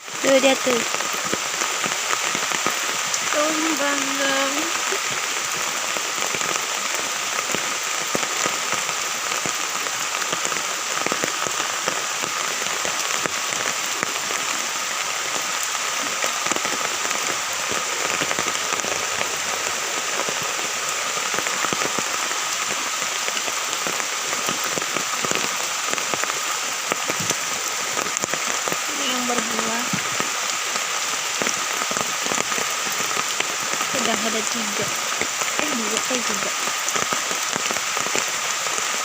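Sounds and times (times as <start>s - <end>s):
heavy rain on umbrella: 0.0s - 39.0s.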